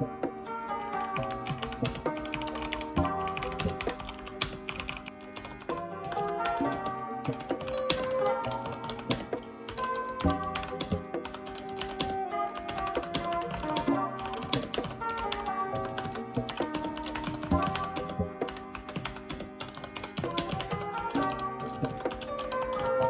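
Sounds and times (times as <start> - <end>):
background music: 0.0 - 23.0
mechanical keyboard typing: 0.9 - 23.0.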